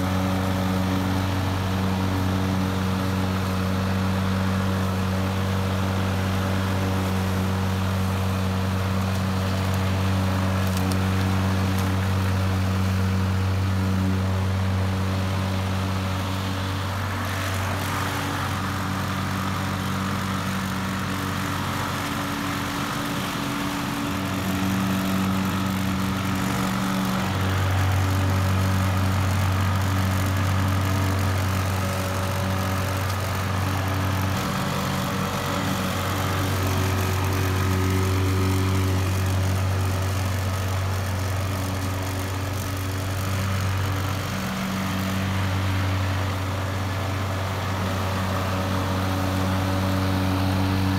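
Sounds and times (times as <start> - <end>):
lawn mower engine running: 0.0 - 50.9.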